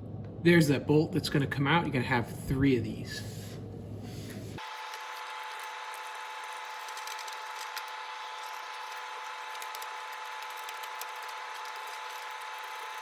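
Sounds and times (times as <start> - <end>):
steady hum with held tones: 0.0 - 13.0.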